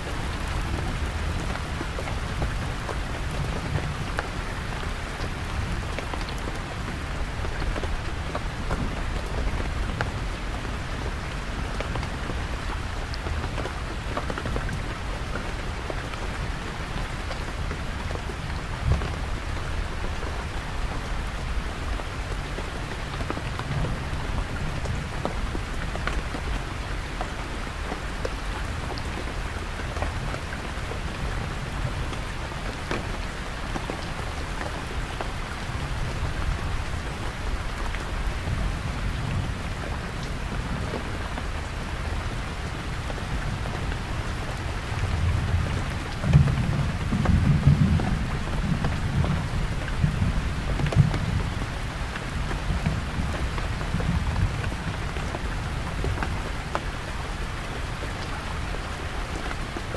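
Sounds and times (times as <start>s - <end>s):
heavy rain on tent: 0.0s - 59.9s.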